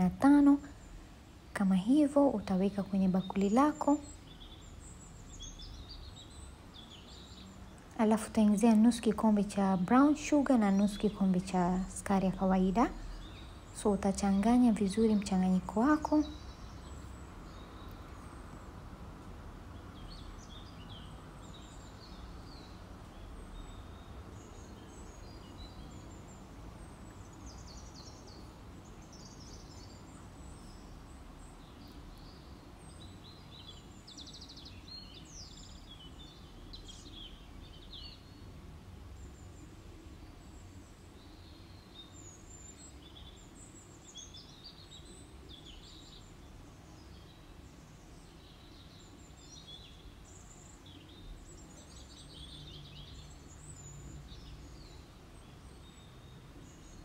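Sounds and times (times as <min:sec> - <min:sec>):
birds chirping: 0:00.0 - 0:57.0
low steady background noise: 0:00.0 - 0:57.0.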